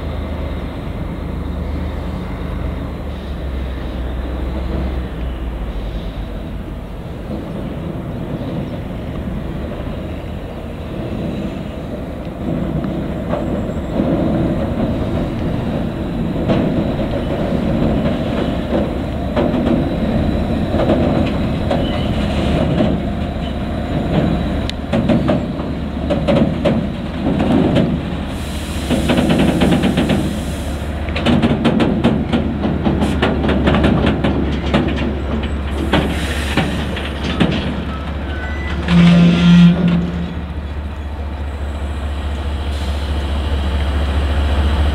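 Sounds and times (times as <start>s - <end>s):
diesel locomotive engine hum: 0.0s - 44.9s
train wheels clicking on rails: 2.9s - 44.9s.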